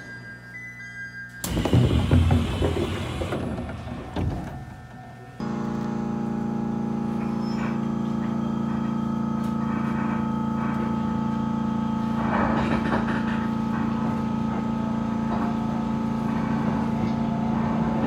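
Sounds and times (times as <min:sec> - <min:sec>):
train engine drone: 0:01.3 - 0:18.0.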